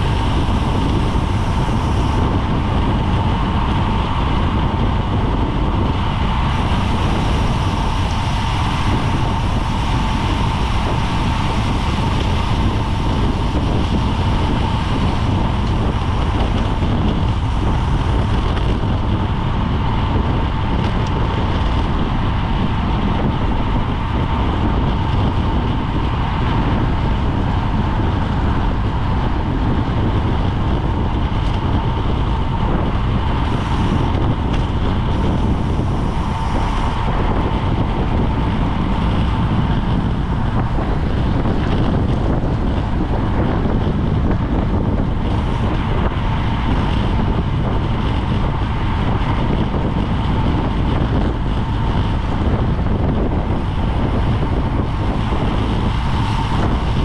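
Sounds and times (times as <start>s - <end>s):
thin steady whine: 0.0s - 57.0s
wind rushing over microphone: 0.0s - 57.0s.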